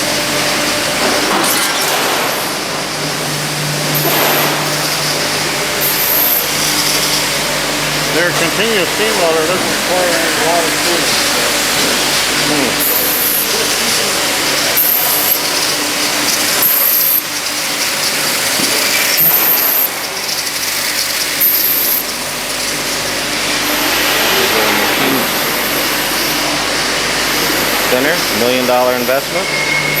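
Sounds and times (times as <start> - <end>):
metalworking machinery din: 0.0 - 30.0.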